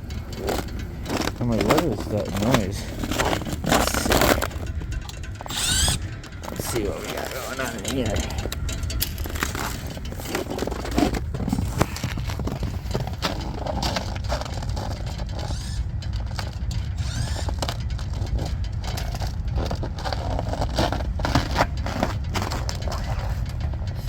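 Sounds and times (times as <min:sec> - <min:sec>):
hvac unit rumbling: 0:00.0 - 0:24.0
parts scraping and clicking: 0:00.0 - 0:24.0.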